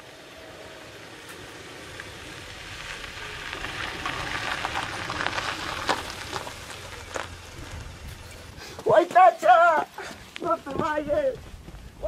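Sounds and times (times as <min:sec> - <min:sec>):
tyres crunching on gravel: 0:00.0 - 0:12.0.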